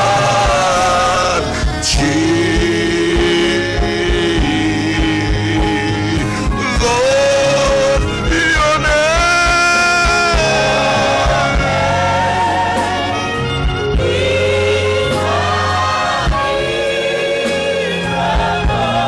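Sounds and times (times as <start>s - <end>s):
band with bass: 0.0s - 19.0s
voices singing long notes: 0.0s - 19.0s.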